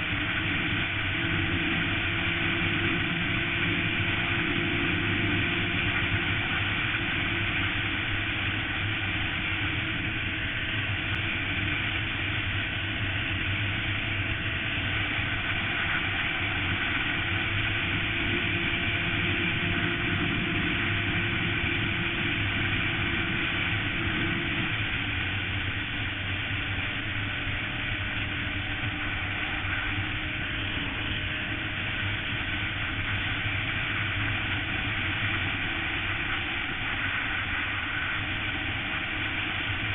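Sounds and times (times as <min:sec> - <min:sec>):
motorcycle engine: 0:00.0 - 0:39.9
road and wind noise: 0:00.0 - 0:39.9.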